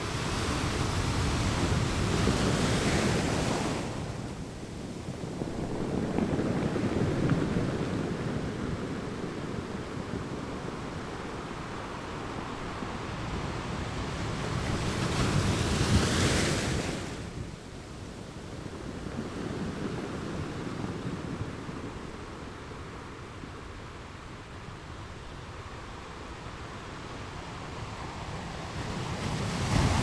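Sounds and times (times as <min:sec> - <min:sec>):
ocean waves washing onto shore: 0:00.0 - 0:30.0.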